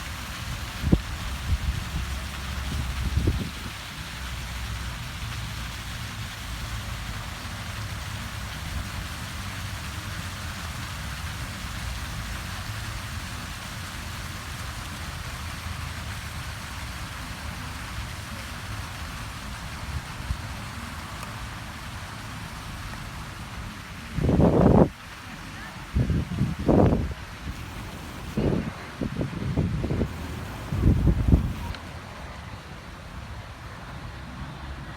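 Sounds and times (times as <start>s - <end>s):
water fountain splashing: 0.0s - 34.9s.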